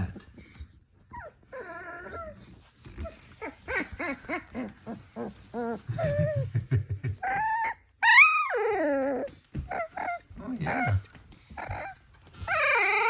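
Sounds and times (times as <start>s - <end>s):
puppies yipping and growling: 0.4s - 6.5s, 7.1s - 13.0s.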